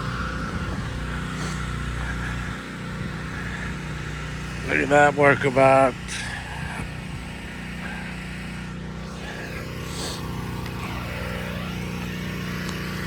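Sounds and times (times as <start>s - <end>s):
pump motor humming: 0.0s - 13.0s.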